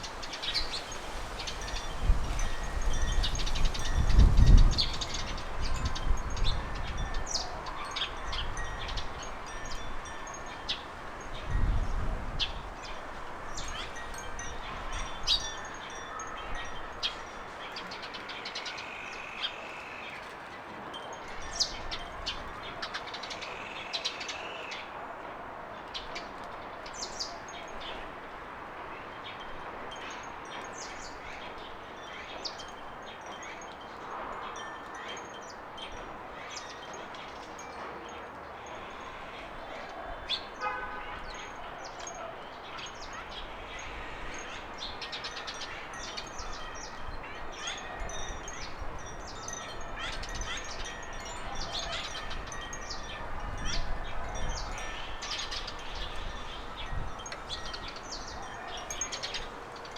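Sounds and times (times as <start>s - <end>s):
garden birds chirping: 0.0s - 59.9s.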